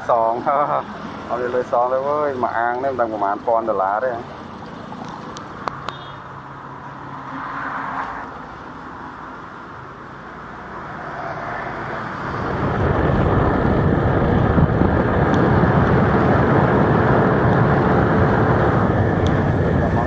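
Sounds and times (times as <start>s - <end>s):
vehicle driving on road: 0.0s - 20.0s.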